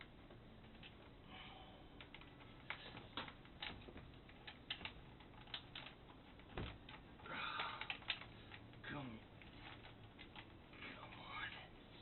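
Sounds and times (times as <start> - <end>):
hands clicking and tapping wires: 0.0 - 1.2, 1.9 - 11.2.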